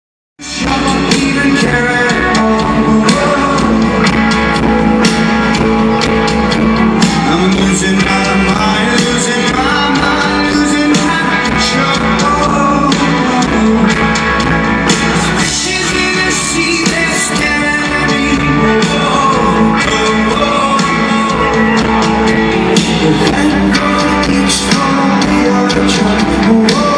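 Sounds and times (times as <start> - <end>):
live rock band: 0.4 - 26.9
person singing: 0.4 - 26.9.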